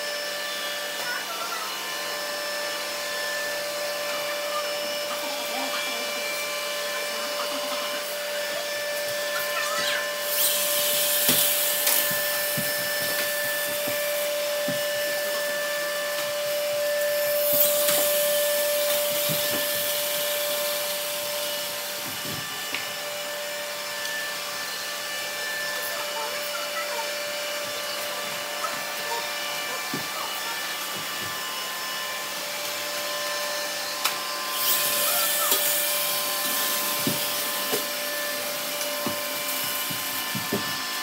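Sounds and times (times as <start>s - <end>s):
robot vacuums motor whine: 0.0s - 41.0s.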